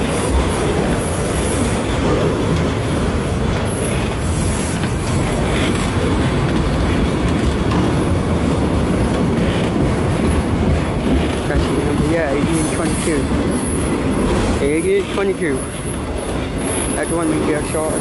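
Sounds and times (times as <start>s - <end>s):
freight train wheels clattering: 0.0s - 18.0s.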